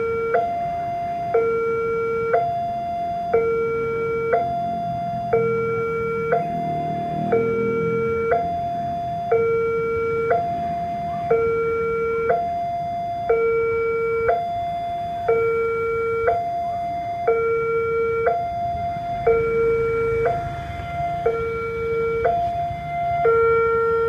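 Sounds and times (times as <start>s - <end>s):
two-tone level crossing alarm: 0.0s - 24.0s.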